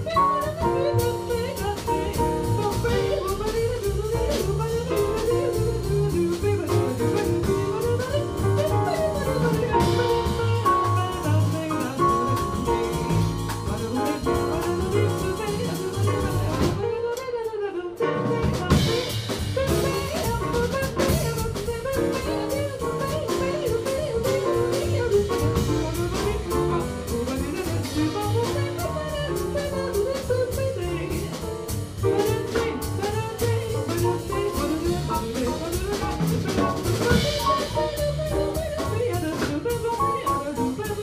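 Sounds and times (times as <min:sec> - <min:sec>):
drum kit steady beat: 0:00.0 - 0:17.0, 0:18.2 - 0:41.0
upright double bass: 0:00.0 - 0:17.0, 0:18.0 - 0:41.0
jazz melody line: 0:00.0 - 0:41.0
piano: 0:00.0 - 0:41.0.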